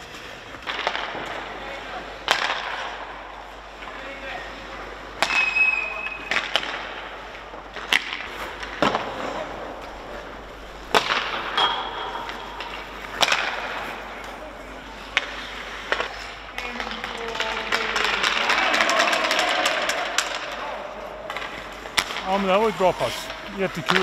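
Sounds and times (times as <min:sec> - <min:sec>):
hockey sticks slapping pucks: 0:00.0 - 0:24.0.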